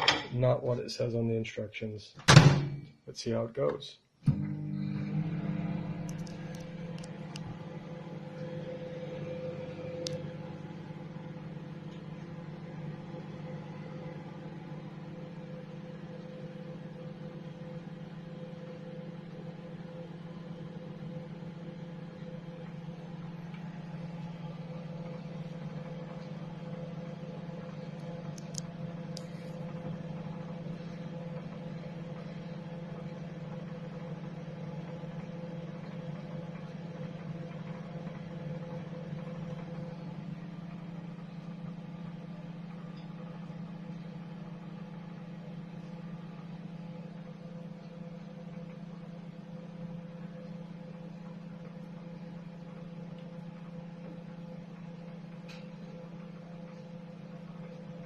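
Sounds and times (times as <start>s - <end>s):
microwave oven humming: 0.0s - 58.0s.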